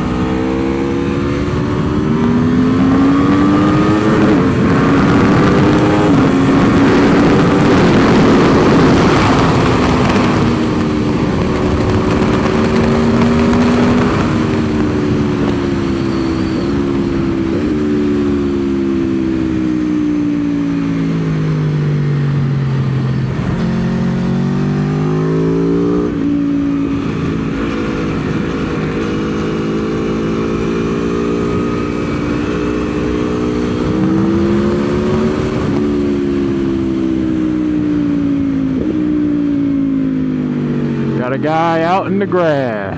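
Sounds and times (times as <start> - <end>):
heavy wind rush: 0.0 - 21.3, 22.2 - 42.9
motorcycle engine shifting gears: 0.0 - 42.9.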